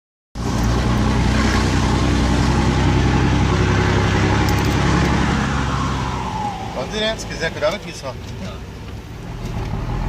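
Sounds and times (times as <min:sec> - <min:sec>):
truck engine exhaust rumble: 0:00.4 - 0:10.0.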